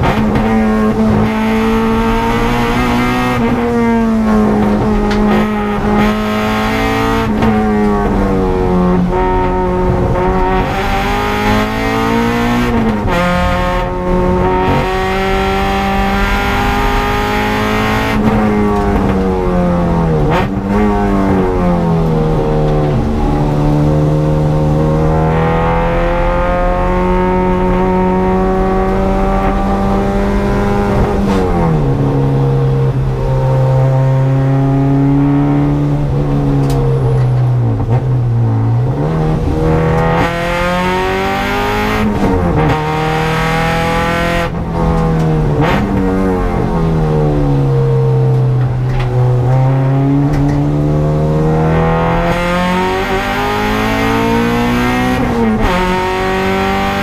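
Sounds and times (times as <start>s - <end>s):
car engine under hard load: 0.0s - 57.0s.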